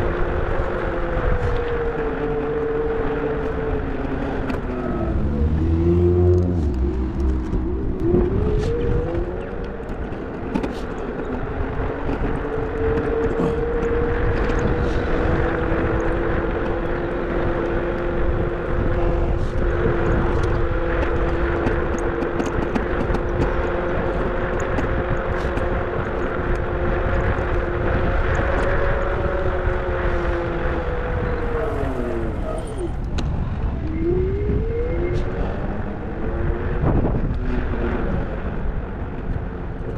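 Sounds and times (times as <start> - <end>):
car engine drone: 0.0 - 39.9
road rumble: 0.0 - 39.9.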